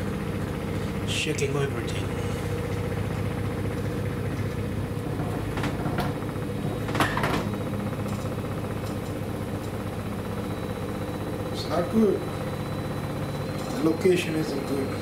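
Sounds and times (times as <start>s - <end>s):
washing machine spin cycle hum: 0.0s - 15.0s.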